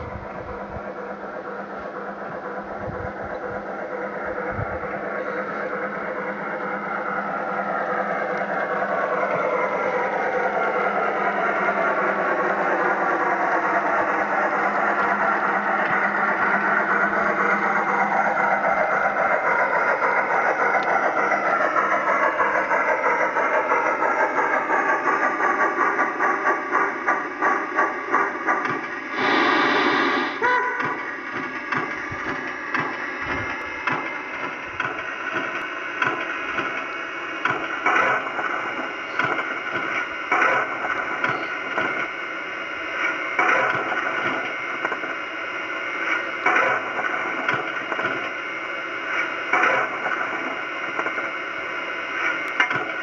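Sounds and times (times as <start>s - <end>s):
steam locomotive hiss: 0.0s - 44.9s
steam locomotive puffs: 0.0s - 53.0s.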